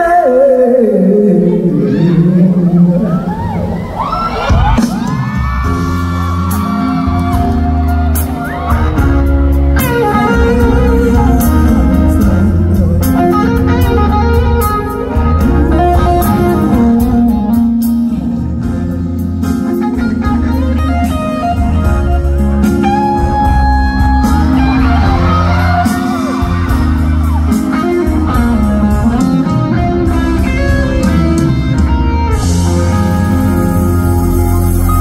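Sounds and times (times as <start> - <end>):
live band with guitar: 0.0 - 35.0.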